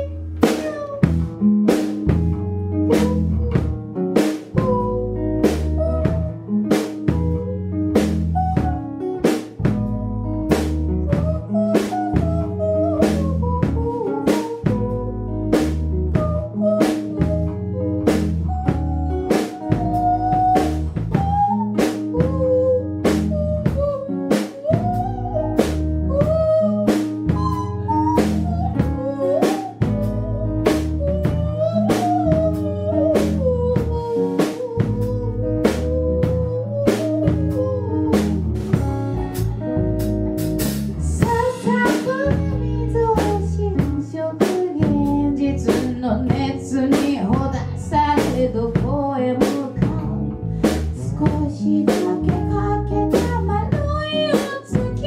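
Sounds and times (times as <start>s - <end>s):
bass line: 0.0s - 55.0s
drum kit beat: 0.0s - 55.0s
lead melody: 0.0s - 55.0s.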